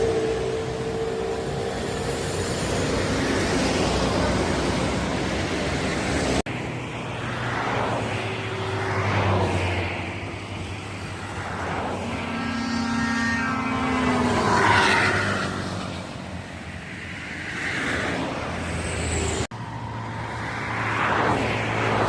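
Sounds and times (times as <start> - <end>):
buses passing: 0.0 - 22.0.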